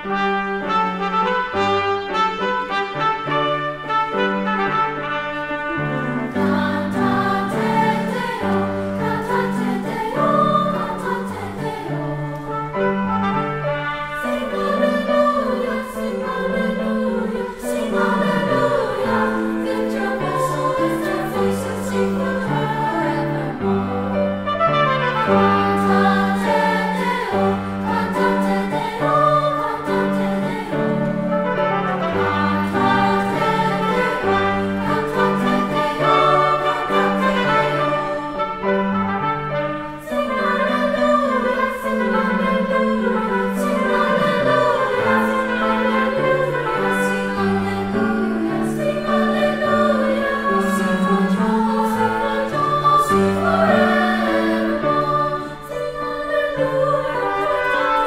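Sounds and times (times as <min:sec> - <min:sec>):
children's choir singing: 0:00.0 - 0:58.0
trumpet: 0:00.0 - 0:58.0.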